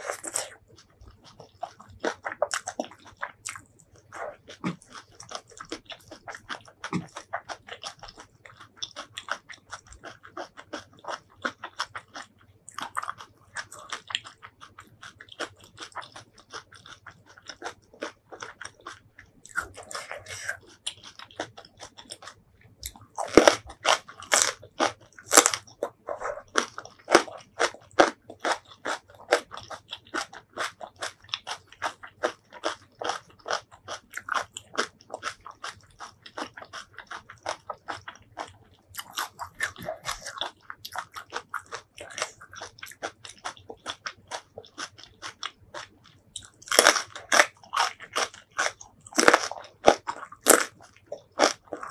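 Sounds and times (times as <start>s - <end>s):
crunching and wet chewing: 0.0s - 51.9s.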